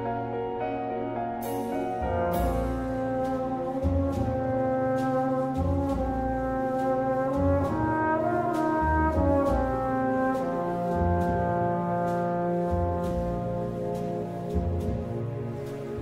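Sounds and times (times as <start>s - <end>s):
brass long chords: 1.6s - 16.0s.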